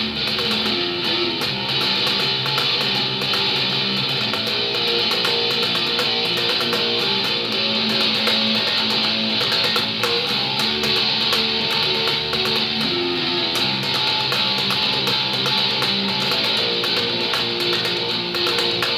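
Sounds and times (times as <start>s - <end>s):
electric bass played fingerstyle: 0.0s - 18.9s.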